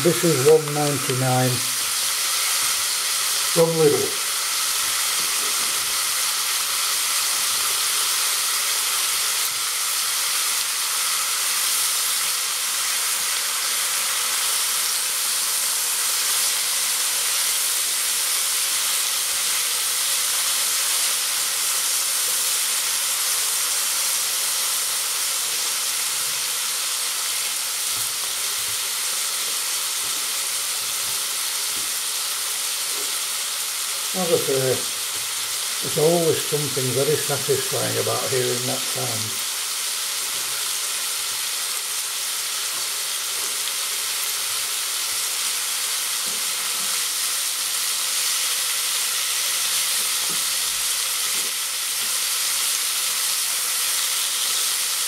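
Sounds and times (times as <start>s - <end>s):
bacon sizzling in a frying pan: 0.0s - 55.0s.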